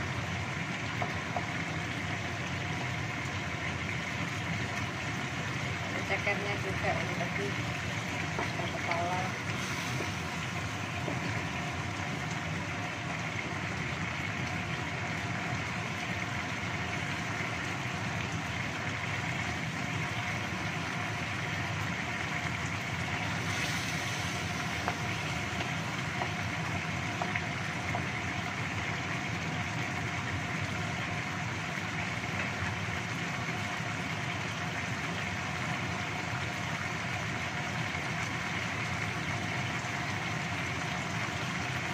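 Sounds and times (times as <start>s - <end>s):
sauce simmering in a wok: 0.0s - 41.9s.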